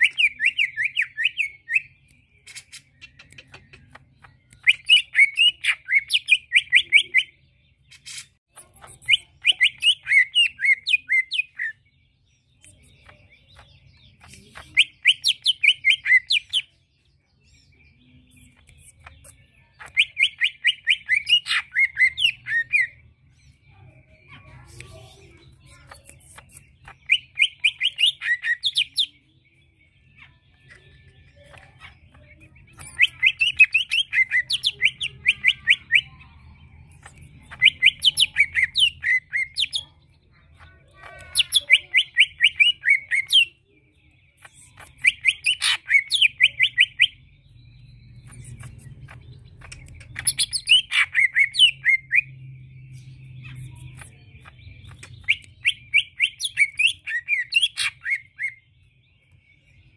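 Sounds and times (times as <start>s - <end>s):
bird chirping song: 0.0s - 59.9s.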